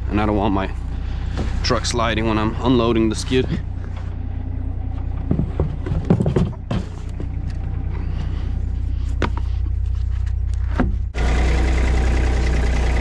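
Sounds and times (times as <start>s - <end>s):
vehicle engine idling: 0.0s - 13.0s
knocks and clunks: 0.8s - 11.2s.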